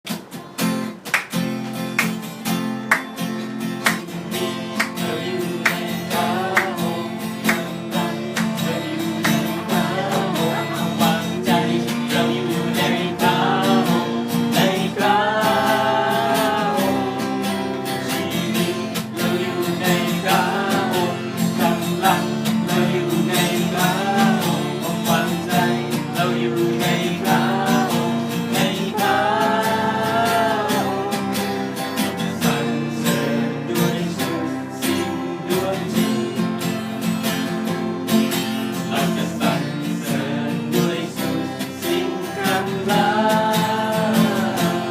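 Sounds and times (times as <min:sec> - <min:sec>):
acoustic guitar: 0:00.0 - 0:44.9
person singing: 0:03.8 - 0:36.8, 0:38.8 - 0:44.9.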